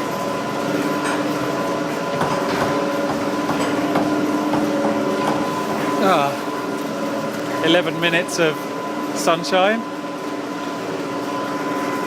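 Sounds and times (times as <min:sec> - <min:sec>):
mechanical running hum: 0:00.0 - 0:12.0.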